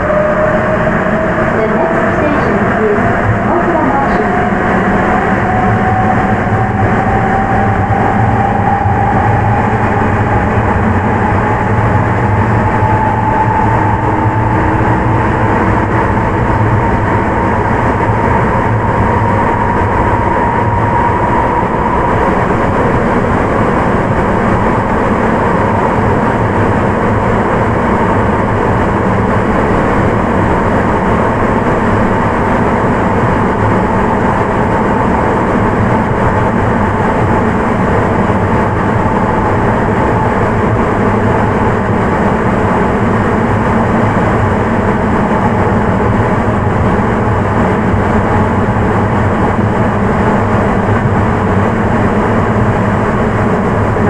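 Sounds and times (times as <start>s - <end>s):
subway train rumble: 0.0s - 54.0s
traction inverter whine: 0.0s - 54.0s.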